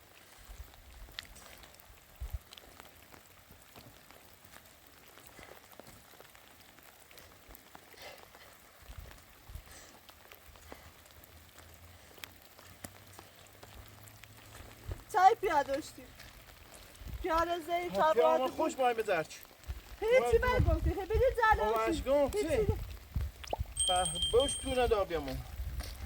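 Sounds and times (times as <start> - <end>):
faint steady rain: 0.0 - 26.0
raindrops ticking: 0.0 - 26.0.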